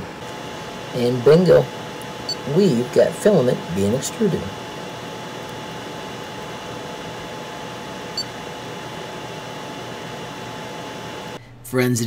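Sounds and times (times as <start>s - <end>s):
cooling fans whirring: 0.0s - 12.0s.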